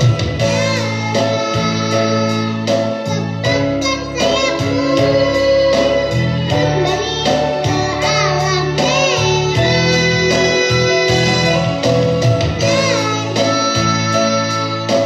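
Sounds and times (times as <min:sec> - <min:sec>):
child singing: 0:00.0 - 0:11.8, 0:12.6 - 0:15.0
instrumental backing music: 0:00.0 - 0:15.0.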